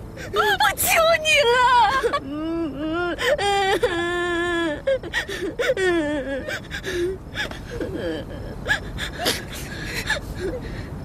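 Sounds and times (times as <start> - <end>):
woman sobbing and wailing: 0.2 - 11.0.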